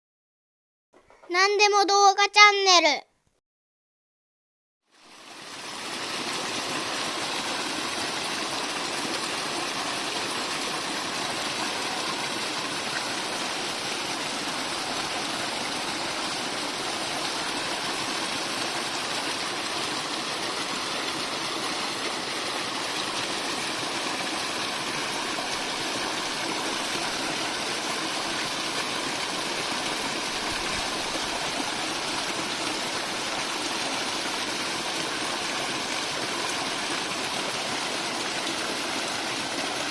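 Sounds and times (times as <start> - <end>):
spring water flowing and splashing: 4.9 - 39.9.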